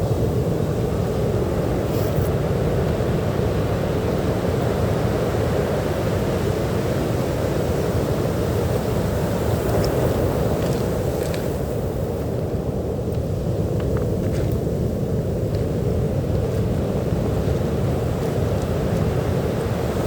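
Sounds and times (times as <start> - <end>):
surf waves rushing on beach: 0.0 - 20.0.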